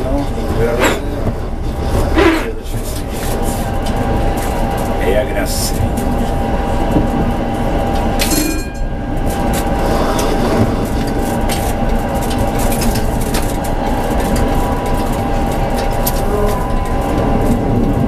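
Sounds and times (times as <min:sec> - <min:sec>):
tram rolling rumble: 0:00.0 - 0:18.0.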